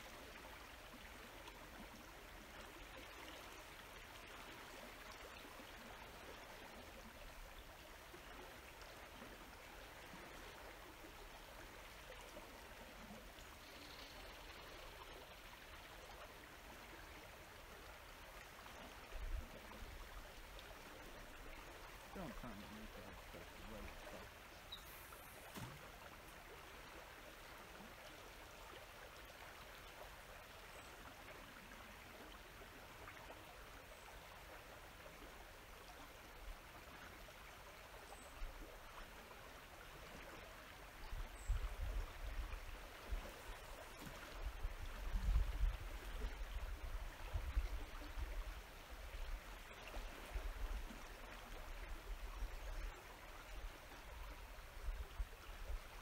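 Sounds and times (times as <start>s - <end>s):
river current flowing: 0.0s - 56.0s.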